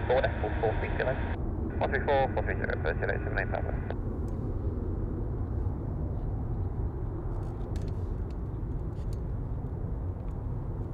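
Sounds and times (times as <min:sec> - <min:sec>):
distant jet engines rumbling: 0:00.0 - 0:10.9.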